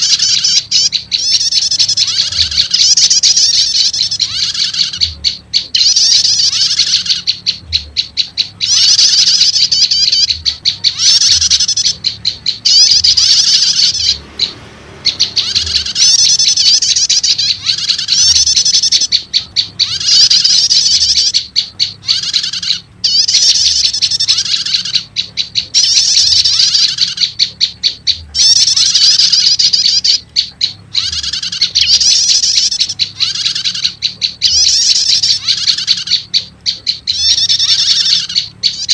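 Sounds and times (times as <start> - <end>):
rapid high bird chattering: 0.0 - 38.9.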